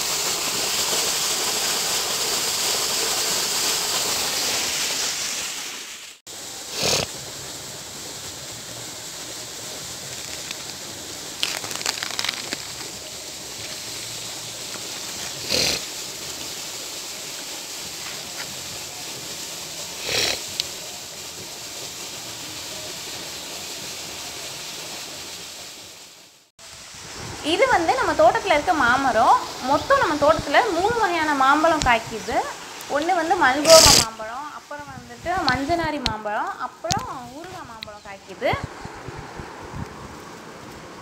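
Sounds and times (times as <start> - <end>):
water rushing along a channel: 0.0 - 26.0, 26.6 - 41.0.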